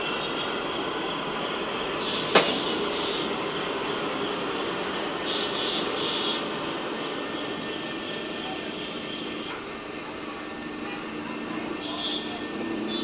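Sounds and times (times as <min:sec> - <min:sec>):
machinery drone: 0:00.0 - 0:13.0.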